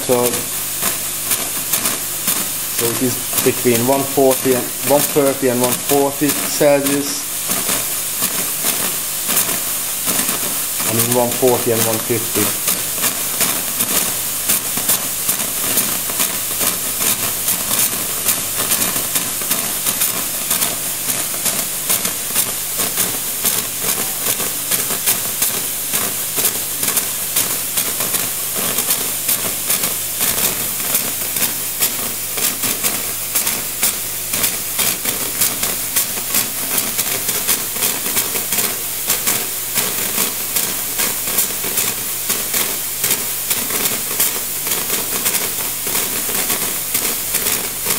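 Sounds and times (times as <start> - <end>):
steam wand hissing and crackling: 0.0 - 47.9.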